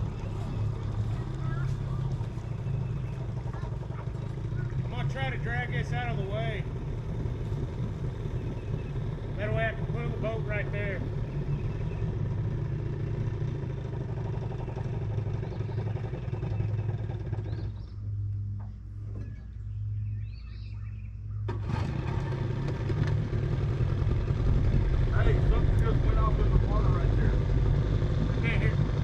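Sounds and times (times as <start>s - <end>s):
outboard motor idling: 0.0s - 29.0s.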